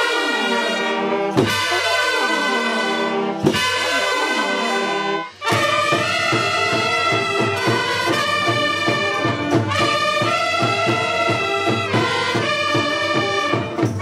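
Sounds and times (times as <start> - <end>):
brass band playing melody: 0.0 - 14.0.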